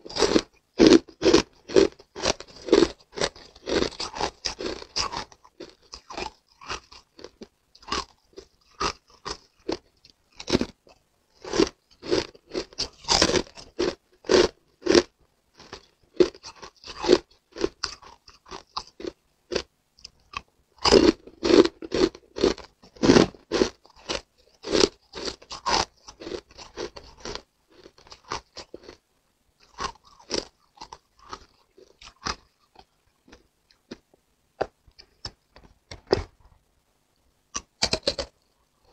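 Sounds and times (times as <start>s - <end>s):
ice crunching and chewing: 0.0s - 29.0s, 29.6s - 34.0s, 37.6s - 38.9s.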